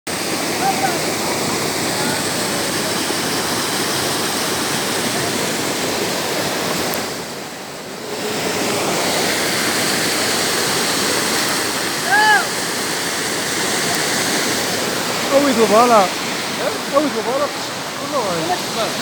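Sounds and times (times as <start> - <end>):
heavy rain rushing: 0.1 - 19.0.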